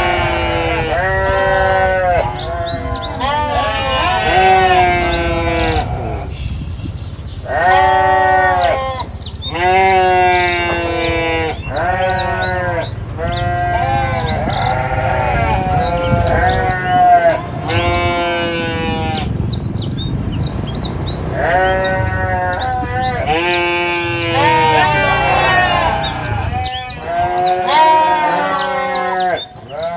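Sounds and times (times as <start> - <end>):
flock bleating: 0.0 - 6.3, 7.5 - 19.5, 21.3 - 29.9.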